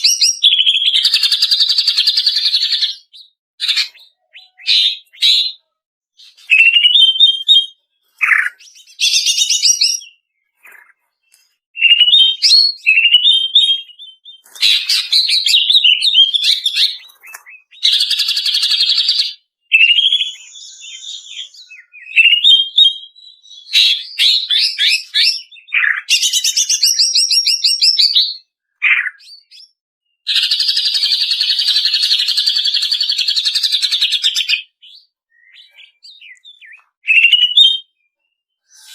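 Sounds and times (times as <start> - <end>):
bird whistling and trilling: 0.0 - 10.9, 11.8 - 38.0, 38.6 - 38.9.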